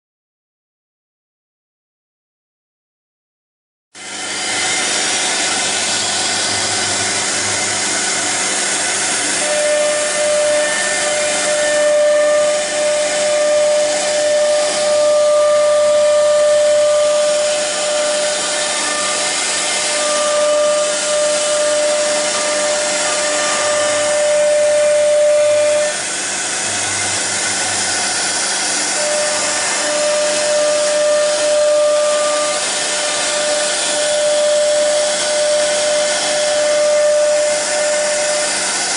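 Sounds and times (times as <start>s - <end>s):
router spindle cutting wood: 4.0s - 38.9s.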